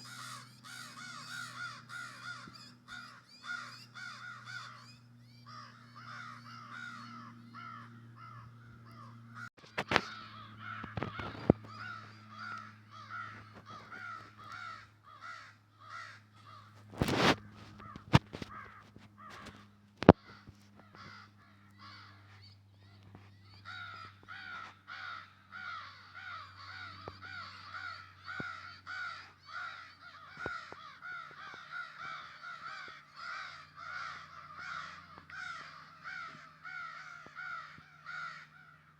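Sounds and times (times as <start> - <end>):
baby bird calling: 0.0 - 38.5.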